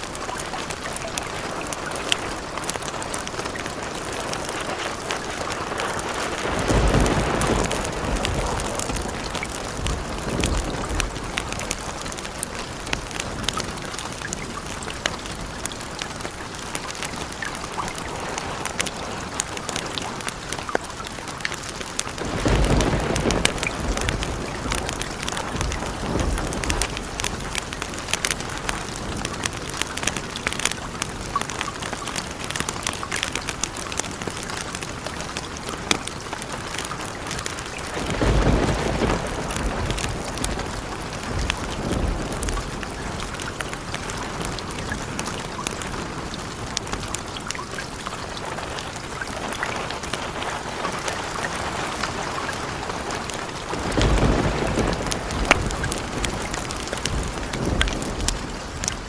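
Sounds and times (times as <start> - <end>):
thunder rumble: 0.0 - 20.6, 22.1 - 30.6, 37.1 - 59.0
steady rain: 0.0 - 59.0.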